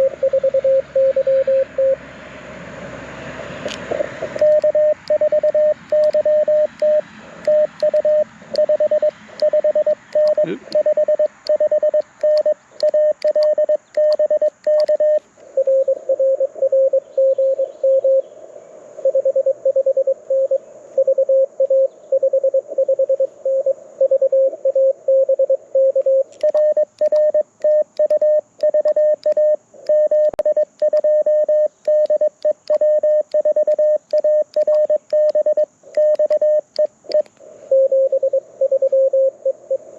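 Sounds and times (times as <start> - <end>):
morse code beeps: 0.0 - 2.0, 4.3 - 18.2, 19.1 - 39.6.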